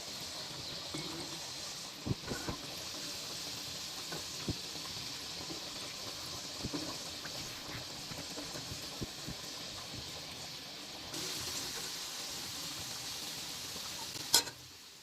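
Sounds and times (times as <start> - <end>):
food hissing on stove: 0.0 - 15.0.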